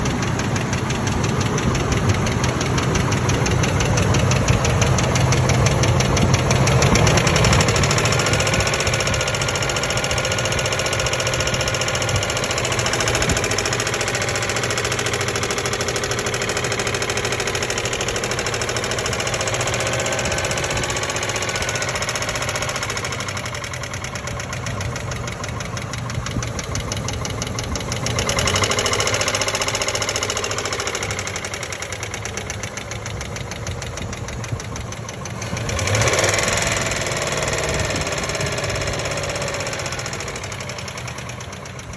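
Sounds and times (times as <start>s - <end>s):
car engine running: 0.0s - 41.9s
engine ticking: 0.0s - 41.9s.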